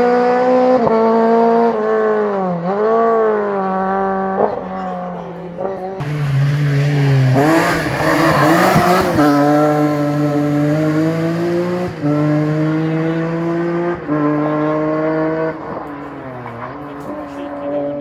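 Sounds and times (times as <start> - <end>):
rally car engine at full throttle: 0.0 - 18.0.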